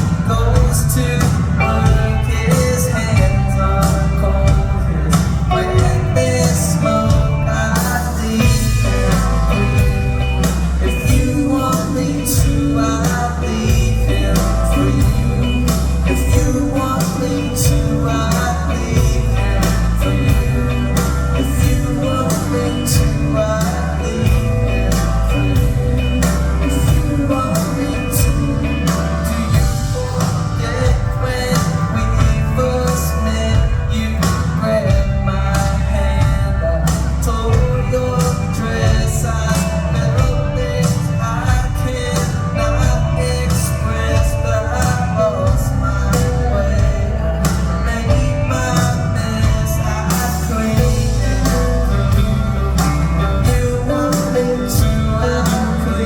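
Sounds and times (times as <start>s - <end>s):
heavy bass line: 0.0s - 56.0s
live band playing: 0.0s - 56.0s
person singing: 0.0s - 56.0s
steady drum beat: 0.0s - 56.0s.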